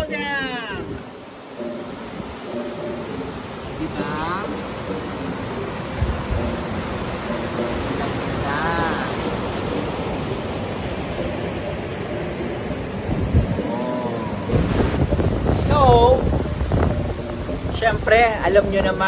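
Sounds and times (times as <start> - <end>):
water rushing over a weir: 0.0 - 19.0.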